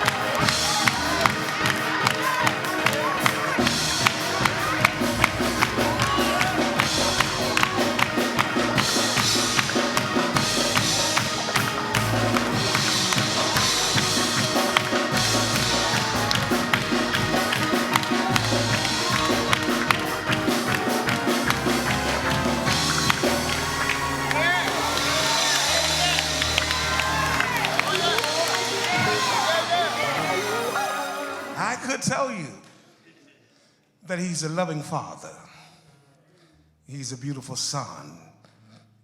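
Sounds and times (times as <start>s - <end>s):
drum kit beat: 0.0s - 31.8s
sustained pitched instruments: 0.0s - 32.0s.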